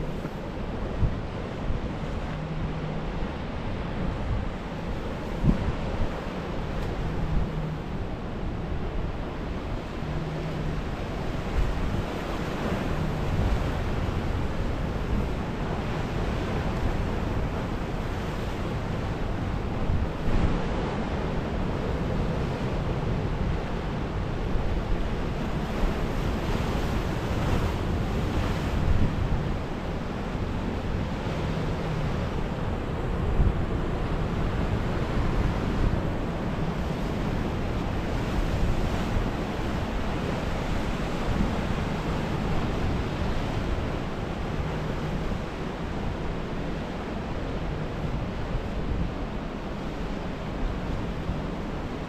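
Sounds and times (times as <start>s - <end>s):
wind rumbling on microphone: 0.0s - 52.0s.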